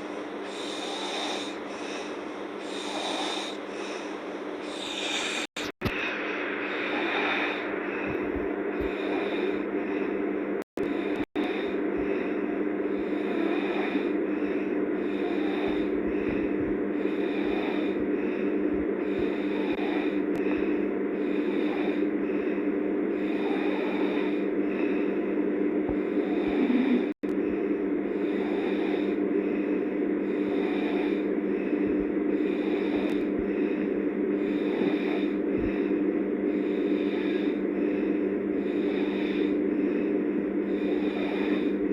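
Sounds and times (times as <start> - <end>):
person snoring: 0.0 - 10.2, 10.8 - 41.9
steady hum: 0.0 - 41.9.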